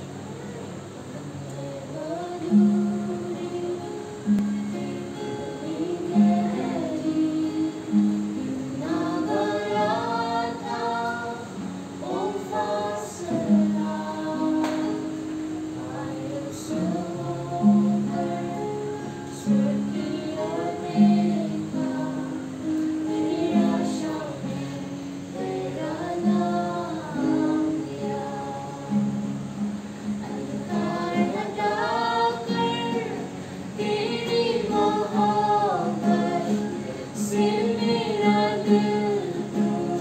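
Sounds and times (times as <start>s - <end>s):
strummed acoustic guitar: 0.0s - 40.0s
people singing a hymn: 1.2s - 40.0s.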